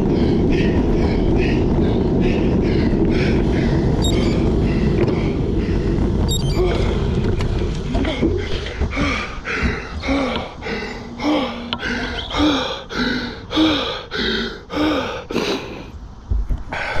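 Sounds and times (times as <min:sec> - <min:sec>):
person panting hard: 0:00.0 - 0:06.2, 0:08.0 - 0:16.0, 0:16.7 - 0:17.0.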